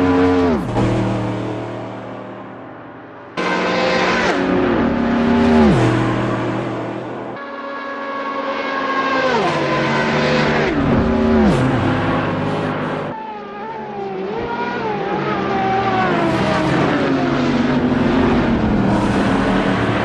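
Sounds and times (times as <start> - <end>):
racing car engine: 0.0 - 20.0.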